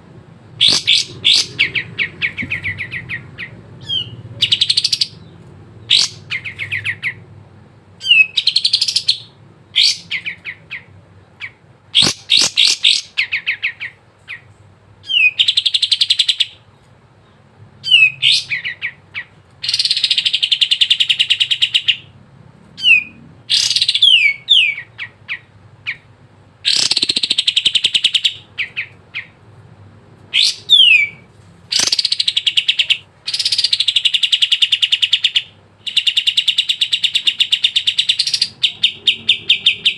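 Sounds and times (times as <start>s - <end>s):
faint low hum: 0.0s - 39.9s
bird singing trills and whistles: 0.6s - 7.2s, 8.0s - 16.6s, 17.8s - 22.1s, 22.8s - 26.1s, 26.7s - 29.4s, 30.3s - 39.9s.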